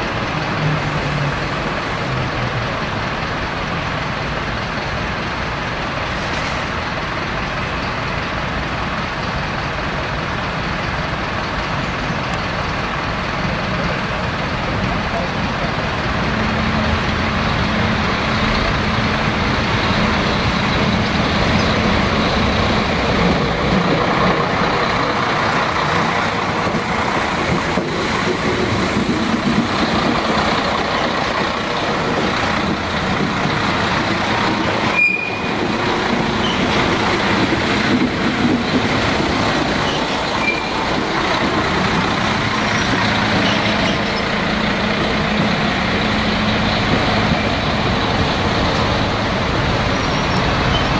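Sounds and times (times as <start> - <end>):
railcar engine drone: 0.0 - 50.9
train wheels on track: 0.0 - 50.9.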